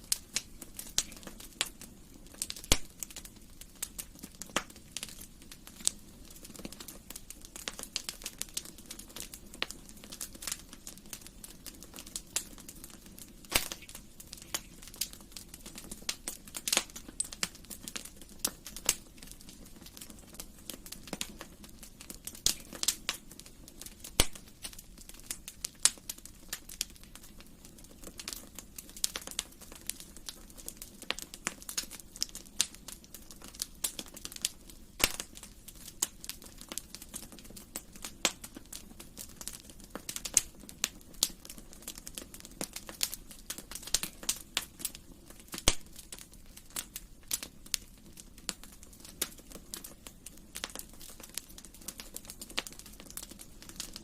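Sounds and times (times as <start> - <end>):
hiss of flames: 0.0 - 54.0
wood fire crackling: 0.0 - 54.0.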